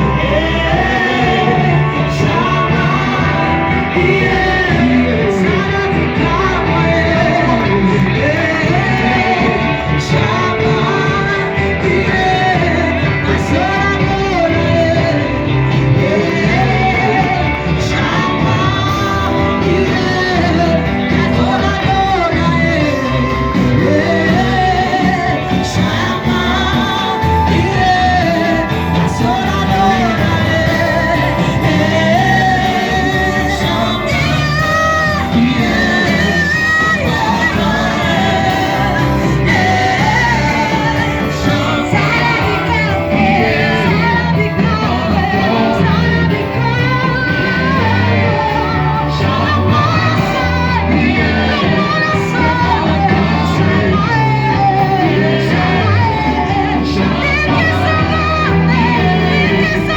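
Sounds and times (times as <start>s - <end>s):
amplified worship music: 0.0s - 59.9s
people singing and shouting: 0.0s - 59.9s.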